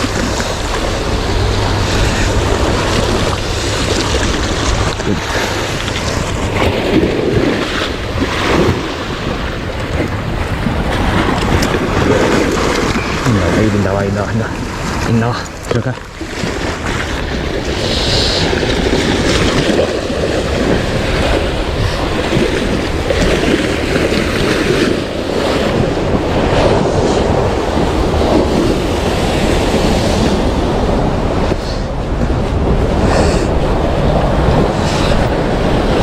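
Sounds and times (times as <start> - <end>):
sea waves washing: 0.0 - 36.0
wind buffeting microphone: 0.0 - 36.0.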